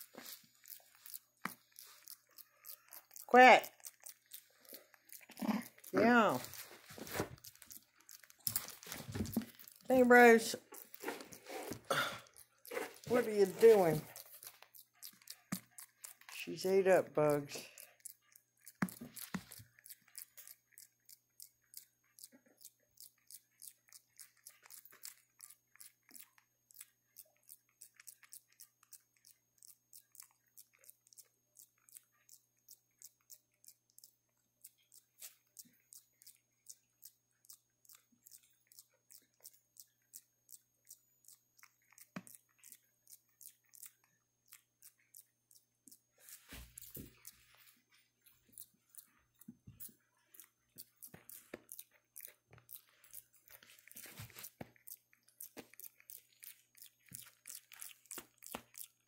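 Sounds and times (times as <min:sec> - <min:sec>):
monkey chewing: 0:00.0 - 0:59.0.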